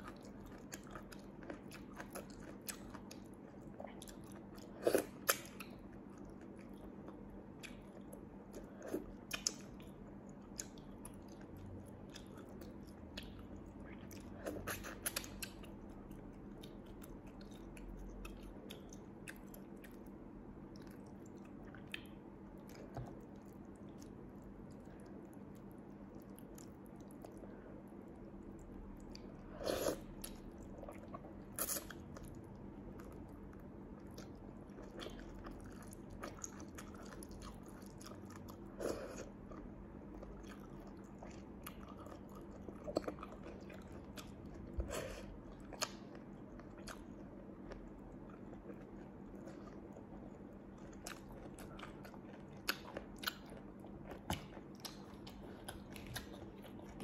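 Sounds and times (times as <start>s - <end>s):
person chewing and sucking food: 0.0s - 57.0s.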